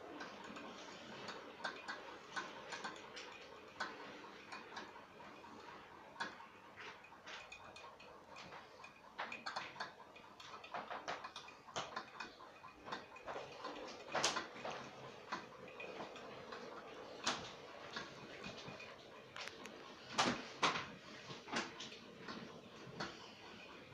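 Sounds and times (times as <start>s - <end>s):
model train wheels clicking: 0.0s - 23.9s.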